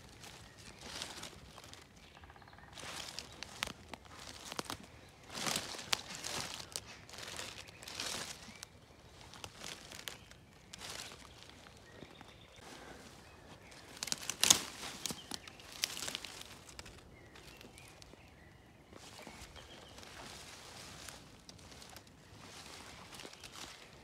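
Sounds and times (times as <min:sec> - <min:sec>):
hand brushing through leaves: 0:00.0 - 0:01.8, 0:02.8 - 0:11.8, 0:13.8 - 0:17.6, 0:19.0 - 0:24.0
footsteps in undergrowth: 0:00.0 - 0:24.0
sharp crackles of plants: 0:00.0 - 0:24.0.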